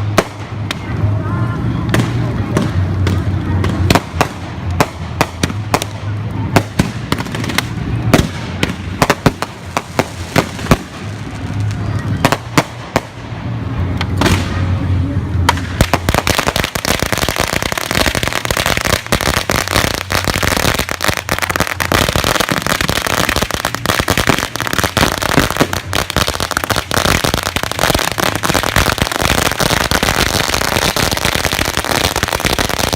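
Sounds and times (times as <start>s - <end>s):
string of firecrackers popping: 0.0s - 1.2s, 1.8s - 13.3s, 13.9s - 14.7s, 15.4s - 32.9s.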